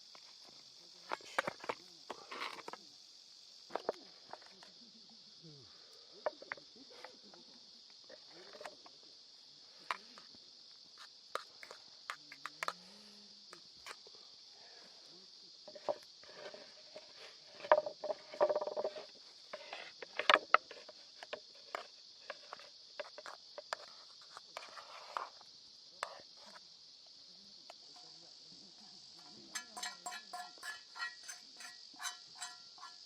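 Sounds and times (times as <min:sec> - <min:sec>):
steady high-pitched hiss: 0:00.0 - 0:33.0.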